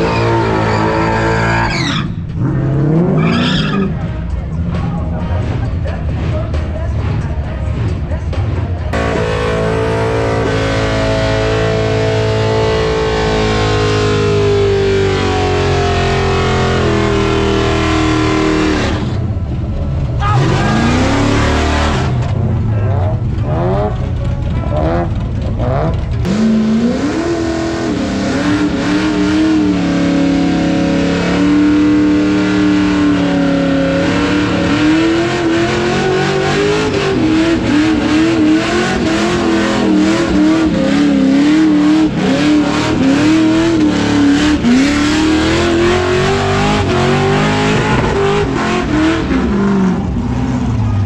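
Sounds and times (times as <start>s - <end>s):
car engine revving hard: 8.9s - 19.2s, 20.4s - 51.0s.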